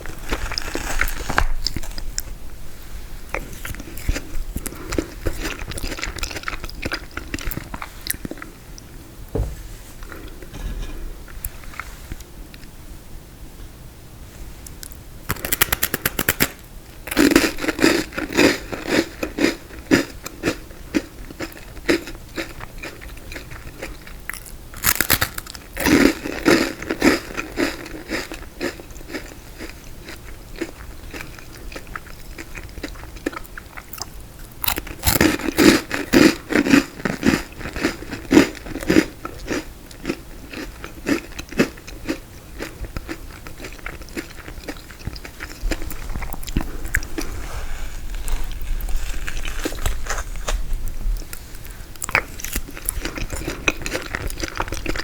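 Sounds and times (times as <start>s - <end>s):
crunchy chewing of frozen dessert: 0.0s - 9.0s, 14.6s - 55.0s.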